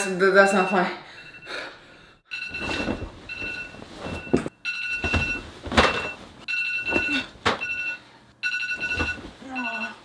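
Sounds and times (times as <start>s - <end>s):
phone alarm beeping: 0.4s - 10.0s.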